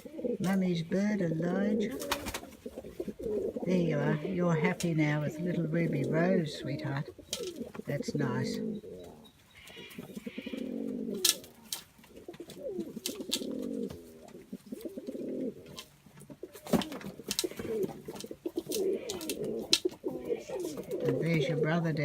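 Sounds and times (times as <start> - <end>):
doves cooing: 0.0 - 22.0.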